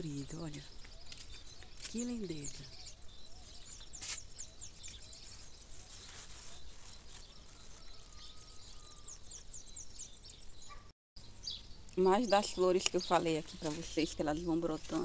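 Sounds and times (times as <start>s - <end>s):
faint outdoor background noise: 0.0s - 15.0s
small birds chirping: 0.0s - 15.0s.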